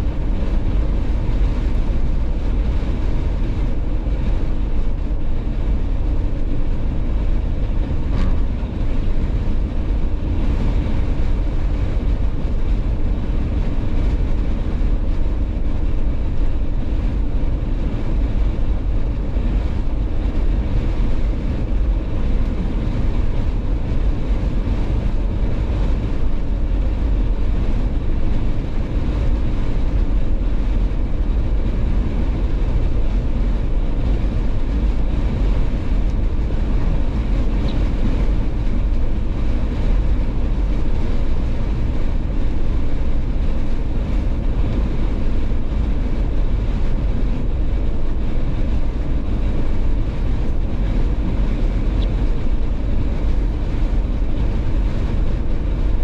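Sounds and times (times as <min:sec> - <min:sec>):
car engine drone: 0:00.0 - 0:56.0
wind noise: 0:00.0 - 0:56.0.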